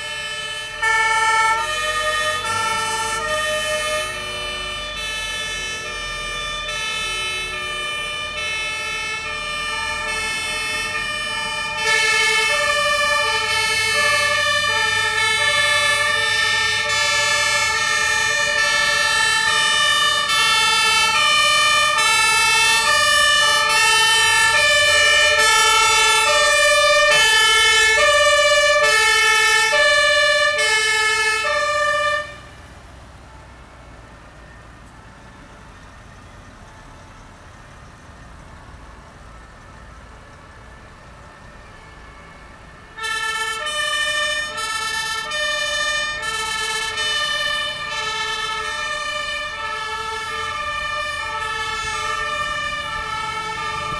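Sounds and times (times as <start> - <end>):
two-tone fire engine sirens: 0.0 - 53.9.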